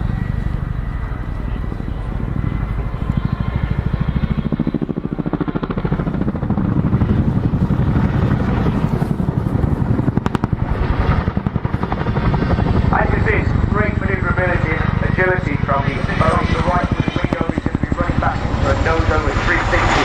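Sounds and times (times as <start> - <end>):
helicopter engine noise: 0.0 - 20.0
helicopter rotors beating: 0.0 - 20.0.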